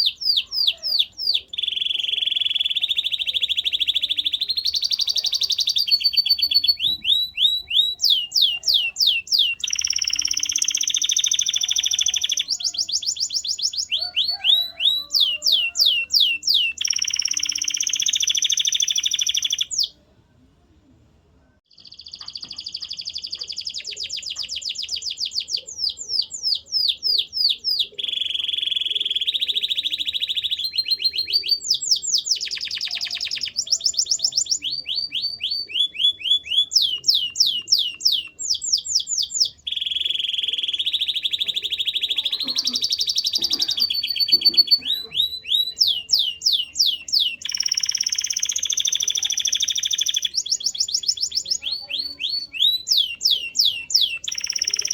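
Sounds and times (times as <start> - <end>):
canary singing: 0.0 - 20.0, 21.7 - 54.9.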